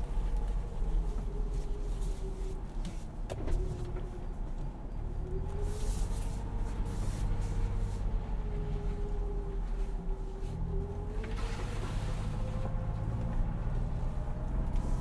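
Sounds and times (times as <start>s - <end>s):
engine rumble with whine: 0.0s - 15.0s.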